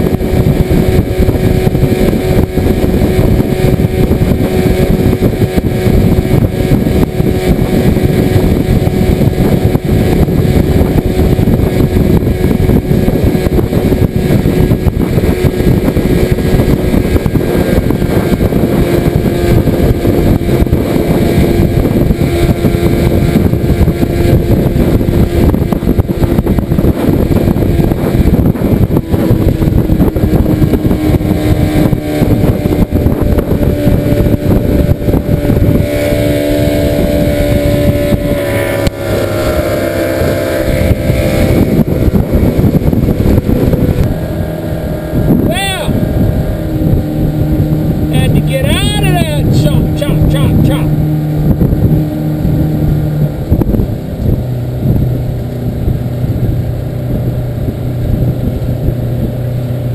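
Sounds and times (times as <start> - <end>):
outboard motor running: 0.0 - 59.9.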